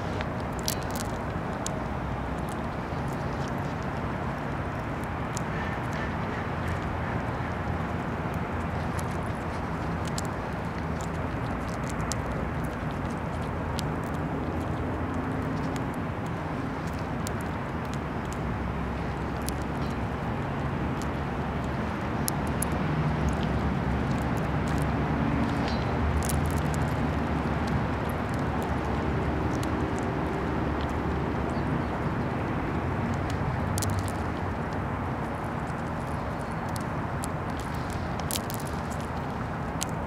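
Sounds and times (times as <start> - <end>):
low rumble and hiss: 0.0 - 40.0.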